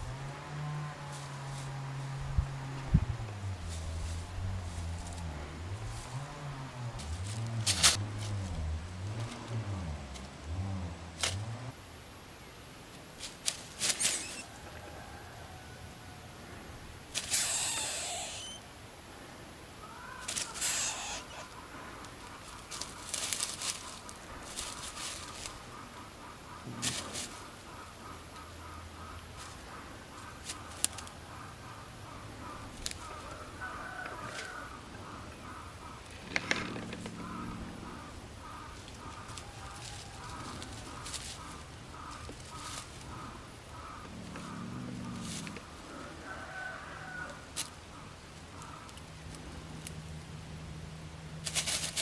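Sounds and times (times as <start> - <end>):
birds calling: 0.0 - 52.0
cat digging in straw and soil: 0.3 - 11.8, 12.9 - 14.5, 17.1 - 18.6, 19.8 - 50.3, 51.3 - 52.0.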